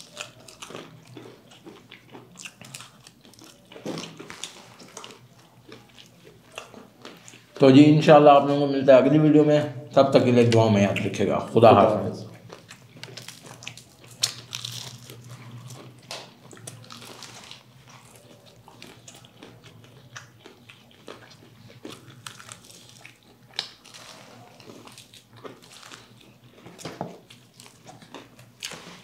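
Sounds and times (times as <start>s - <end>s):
crunching fried chicken: 0.0s - 8.2s, 12.4s - 29.0s.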